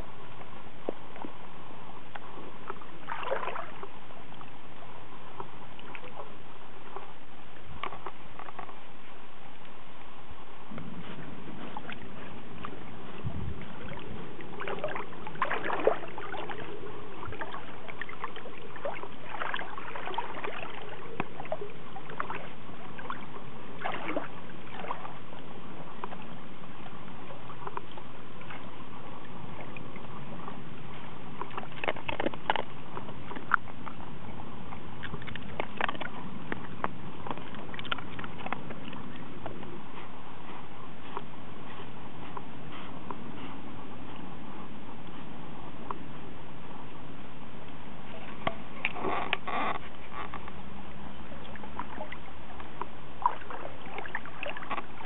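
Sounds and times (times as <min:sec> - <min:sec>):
water sloshing and splashing: 0:00.0 - 0:46.3, 0:47.5 - 0:55.0
wash of moving water: 0:00.0 - 0:55.0.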